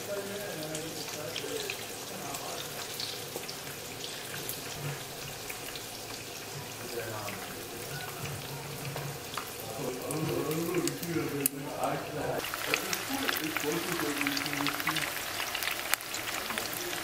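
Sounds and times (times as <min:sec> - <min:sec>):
oil sizzling in a skillet: 0:00.0 - 0:17.0.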